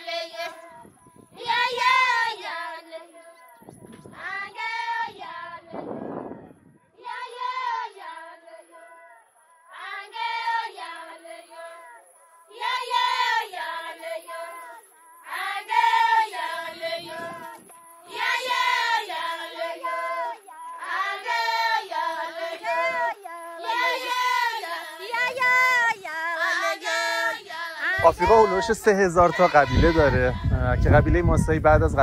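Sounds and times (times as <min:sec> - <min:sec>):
women singing held notes: 0:00.0 - 0:30.6.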